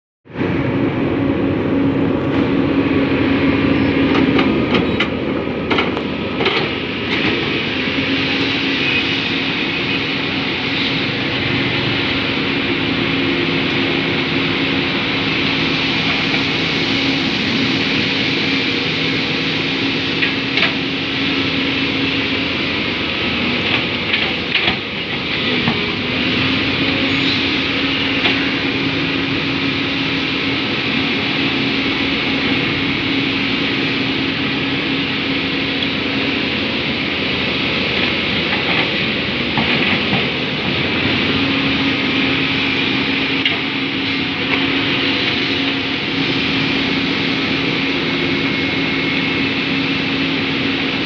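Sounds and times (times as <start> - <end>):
excavator diesel engines droning: 0.3 - 51.0.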